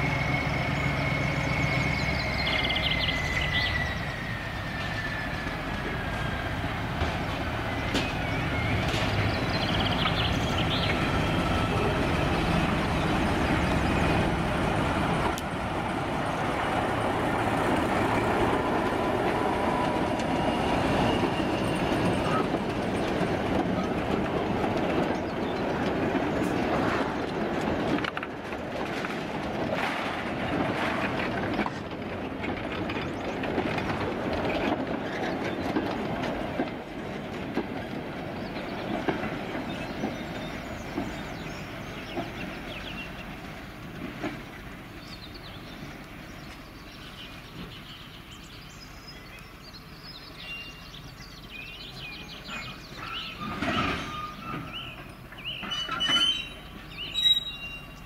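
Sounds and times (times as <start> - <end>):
diesel locomotive running: 0.0 - 58.0
wheels clicking over rail joints: 2.4 - 58.0.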